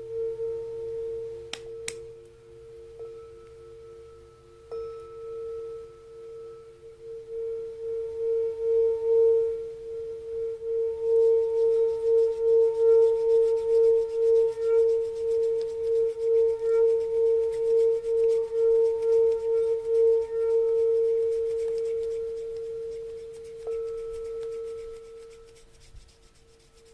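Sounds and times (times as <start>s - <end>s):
singing bowl struck: 0.0s - 25.6s
singing bowl ringing: 0.0s - 26.9s.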